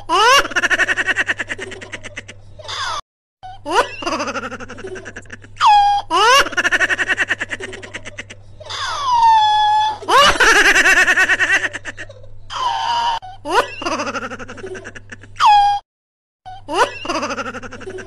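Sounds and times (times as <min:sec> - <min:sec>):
person laughing comically: 0:00.0 - 0:03.0, 0:03.6 - 0:15.8, 0:16.7 - 0:18.0.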